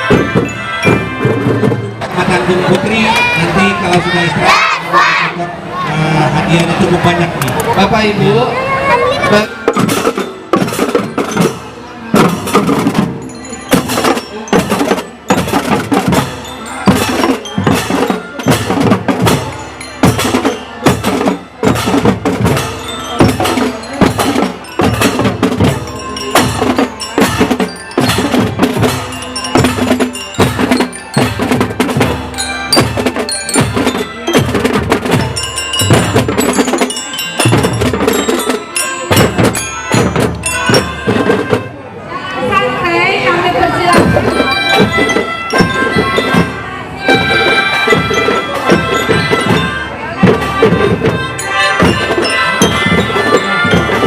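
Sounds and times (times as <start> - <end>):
held melody: 0.0 - 4.8, 8.1 - 54.0
marching drums beating: 0.0 - 5.3, 8.9 - 41.8, 43.3 - 54.0.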